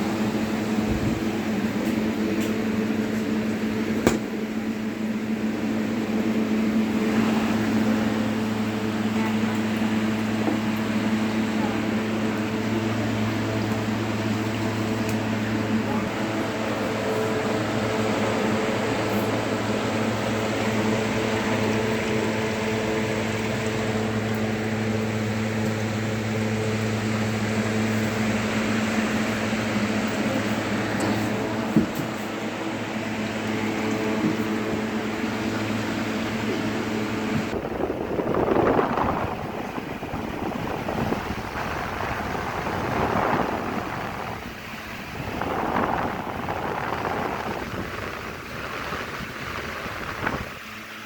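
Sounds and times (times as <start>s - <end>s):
fan motor humming: 0.0s - 51.0s.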